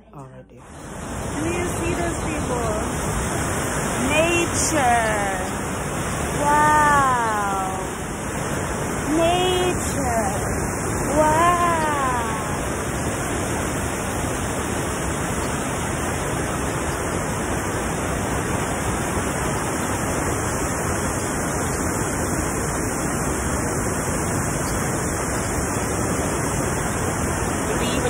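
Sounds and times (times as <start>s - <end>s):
waterfall rushing: 0.6s - 28.0s.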